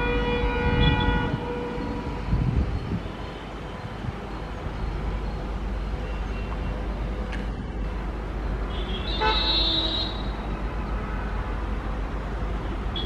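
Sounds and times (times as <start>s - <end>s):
diesel locomotives rumbling: 0.0s - 13.0s.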